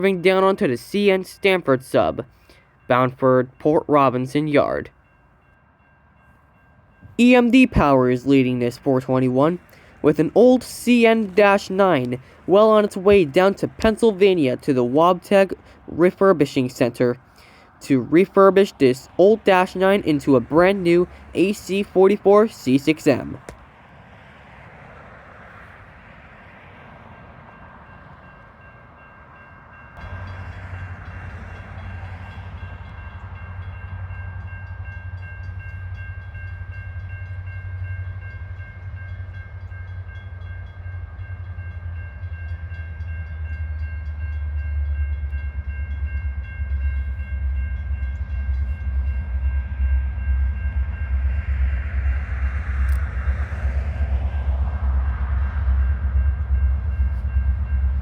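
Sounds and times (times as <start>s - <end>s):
diesel locomotive rumble: 0.0s - 58.0s.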